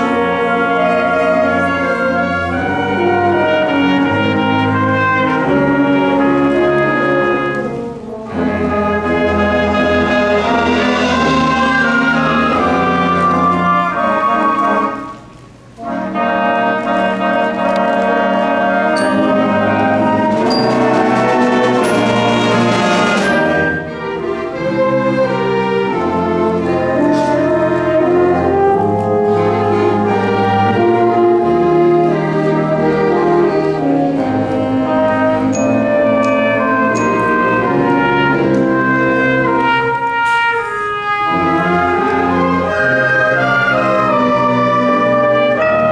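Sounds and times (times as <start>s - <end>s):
wind band playing: 0.0s - 45.9s.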